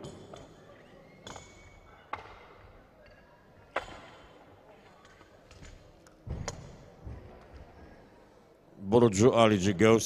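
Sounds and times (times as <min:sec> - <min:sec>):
faint murmur of hall noise: 0:00.0 - 0:10.0.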